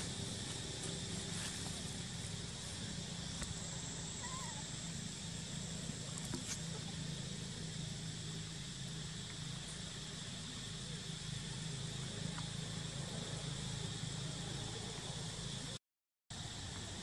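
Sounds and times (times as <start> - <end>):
low hum: 0.0 - 15.8.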